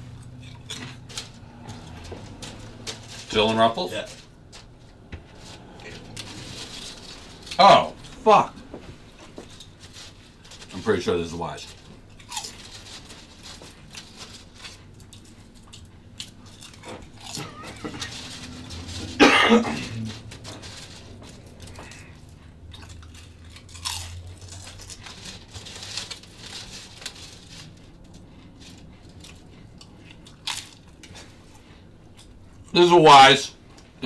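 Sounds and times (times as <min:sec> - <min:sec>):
person chewing potato chips: 0:00.0 - 0:34.0.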